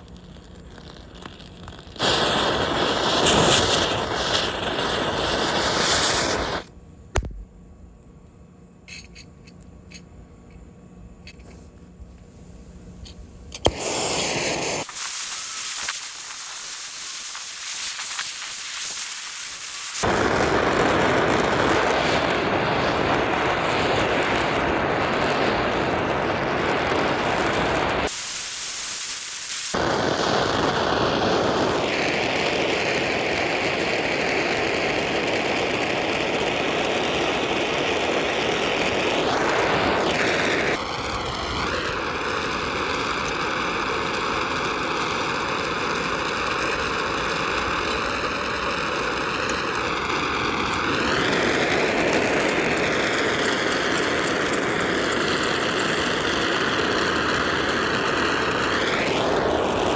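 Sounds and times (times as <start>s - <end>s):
gas torch flame hissing: 0.0s - 7.6s, 11.4s - 59.9s.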